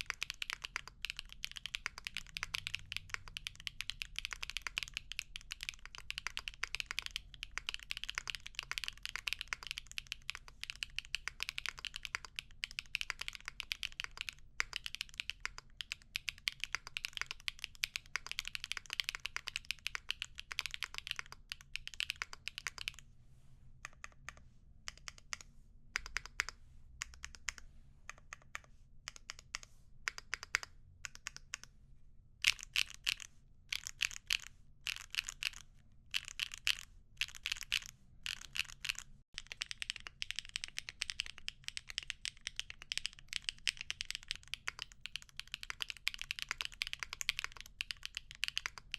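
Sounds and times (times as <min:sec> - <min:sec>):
mechanical keyboard typing: 0:00.0 - 0:23.0, 0:23.8 - 0:31.7, 0:32.4 - 0:48.9.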